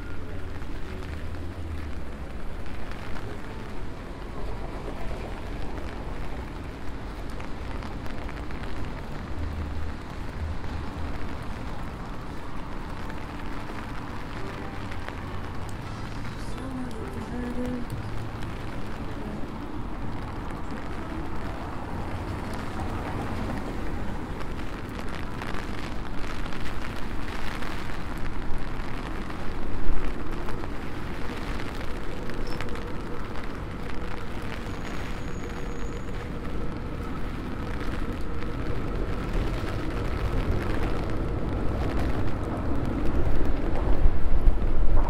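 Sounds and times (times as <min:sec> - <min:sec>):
rain falling: 0:00.0 - 0:45.0
traffic on wet roads: 0:00.0 - 0:45.0.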